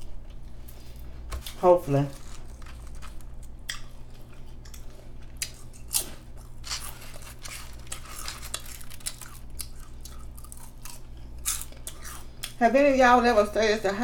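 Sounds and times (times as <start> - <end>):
potato chips crunching: 0.3 - 12.6.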